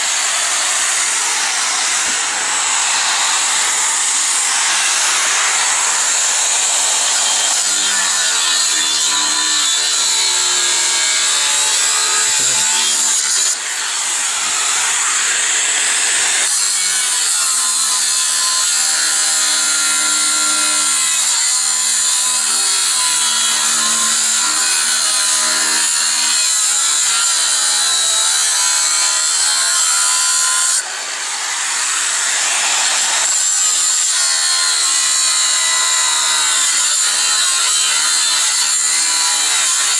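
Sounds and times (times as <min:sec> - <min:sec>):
angle grinder cutting steel: 0:00.0 - 0:39.9.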